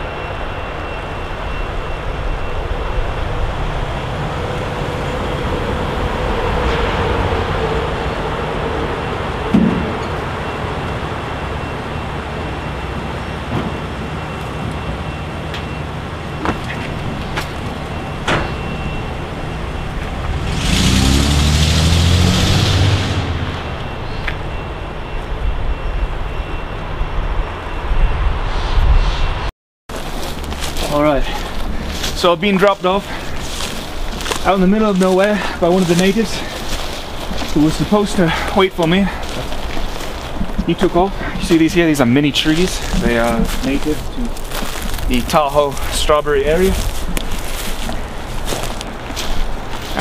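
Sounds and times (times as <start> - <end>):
vehicle engine rumbling and revving: 0.0 - 50.0.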